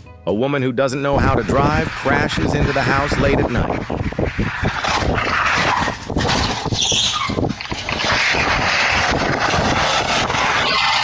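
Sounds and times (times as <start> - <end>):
loud rushing noise: 1.1 - 11.0.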